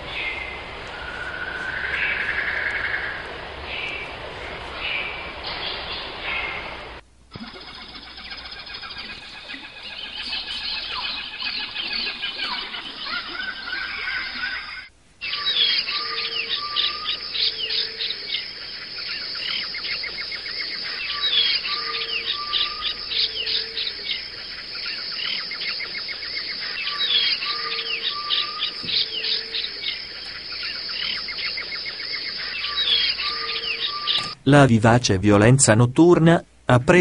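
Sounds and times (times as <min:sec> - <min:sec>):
birds chirping: 0:00.0 - 0:34.4
insects buzzing: 0:00.0 - 0:34.4.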